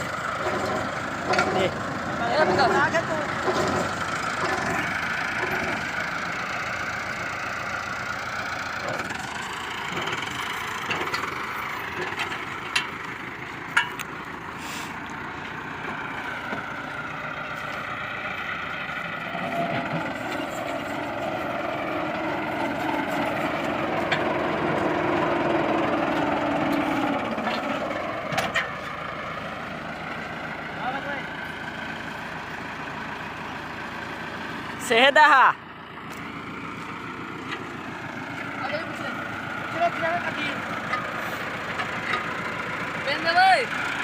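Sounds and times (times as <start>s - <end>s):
tractor engine driving thresher: 0.0s - 44.0s.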